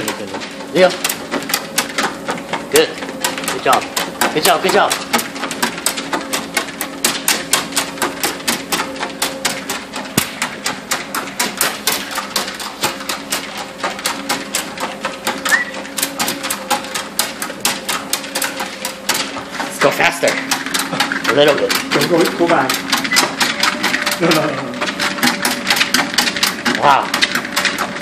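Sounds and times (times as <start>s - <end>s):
dog paws tapping on belt: 0.0s - 28.0s
treadmill motor humming: 0.0s - 28.0s.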